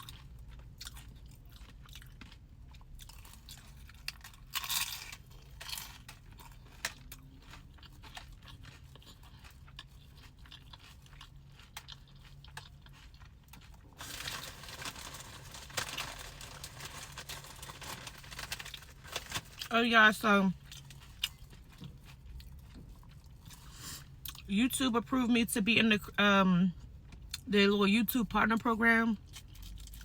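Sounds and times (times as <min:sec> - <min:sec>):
chewing and crunching food: 0:00.0 - 0:30.0.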